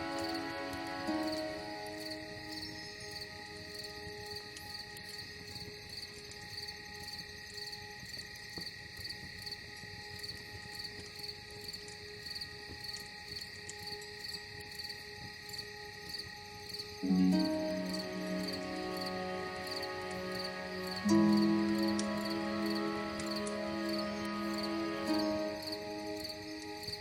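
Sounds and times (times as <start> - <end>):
crickets chirping: 0.0 - 27.0
soft ambient music: 0.0 - 27.0.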